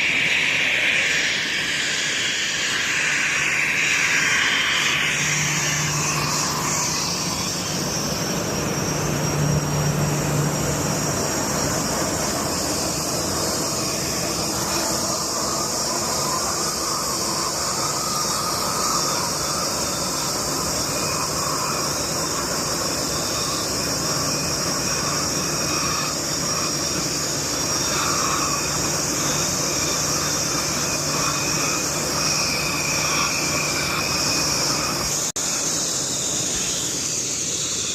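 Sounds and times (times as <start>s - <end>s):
jet engine roar: 0.0s - 37.9s.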